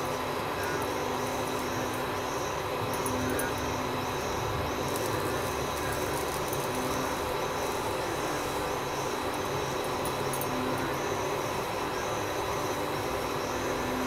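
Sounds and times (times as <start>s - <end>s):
constant rushing noise: 0.0s - 14.0s
crickets chirping: 0.0s - 14.0s.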